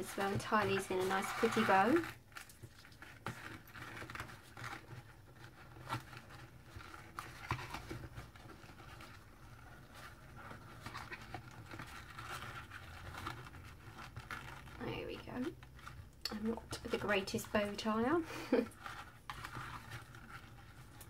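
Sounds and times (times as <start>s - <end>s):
faint rustling of ribbon and card: 0.0s - 21.0s.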